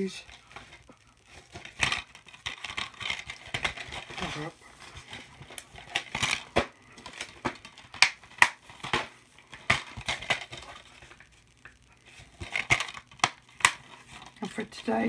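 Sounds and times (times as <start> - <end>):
objects being handled: 0.2 - 15.0.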